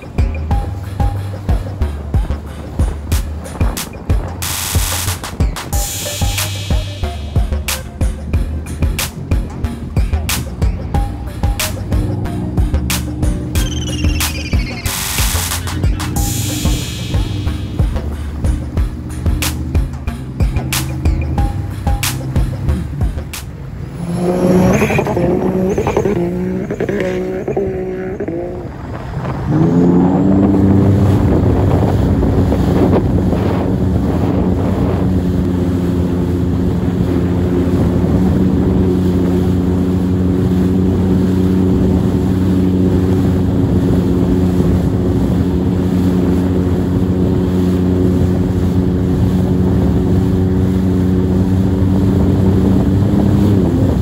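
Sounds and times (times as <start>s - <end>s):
jet ski engine running: 0.0s - 54.0s.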